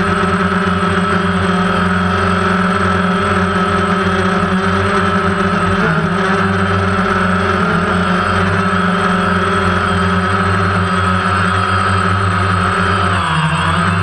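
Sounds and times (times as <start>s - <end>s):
drone motors humming: 0.0s - 14.0s.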